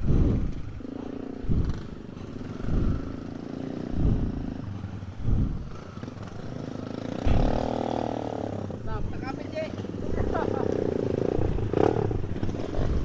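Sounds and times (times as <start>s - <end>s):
motorcycle engine surging: 0.0s - 13.0s.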